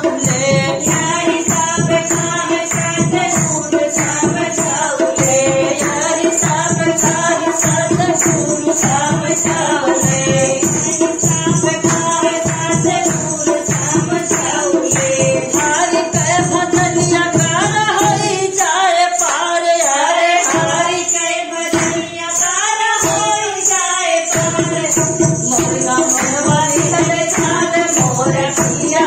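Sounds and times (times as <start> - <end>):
drum and tambourine beat: 0.0 - 29.0
folk singing: 0.0 - 29.0.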